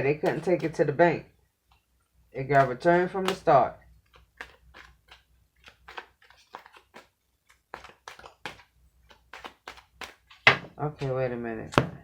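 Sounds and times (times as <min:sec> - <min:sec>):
cards being shuffled: 0:00.1 - 0:00.9, 0:02.4 - 0:12.0.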